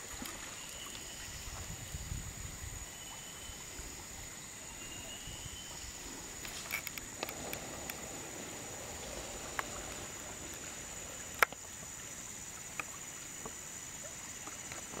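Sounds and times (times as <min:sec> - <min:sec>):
river water running: 0:00.0 - 0:15.0.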